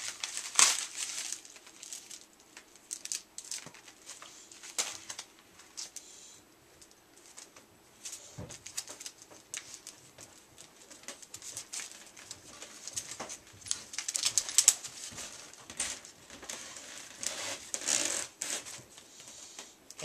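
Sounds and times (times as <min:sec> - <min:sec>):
packaging rustling and crinkling: 0:00.0 - 0:06.0, 0:06.8 - 0:19.1.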